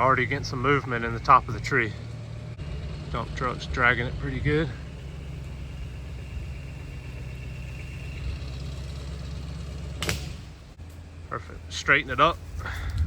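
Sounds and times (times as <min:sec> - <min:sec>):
truck engine under load: 0:00.0 - 0:13.0.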